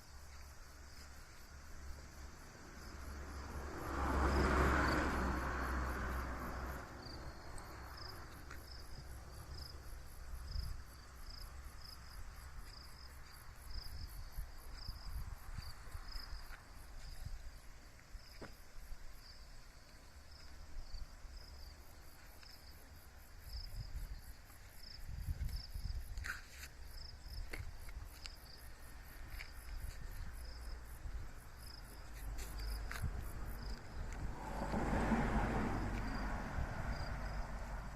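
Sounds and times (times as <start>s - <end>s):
insect chirping: 0.0s - 37.9s
passing vehicle: 1.4s - 37.9s.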